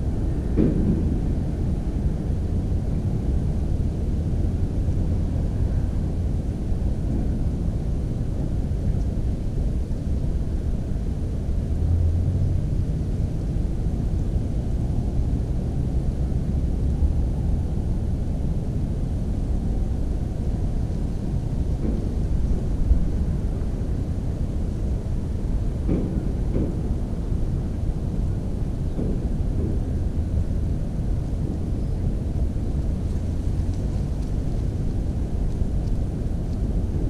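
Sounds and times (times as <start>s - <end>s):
steady low rumbling: 0.0s - 37.0s.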